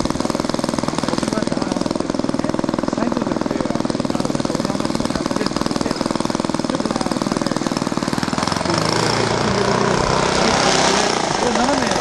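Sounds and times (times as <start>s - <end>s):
light aircraft piston engine: 0.0s - 12.0s.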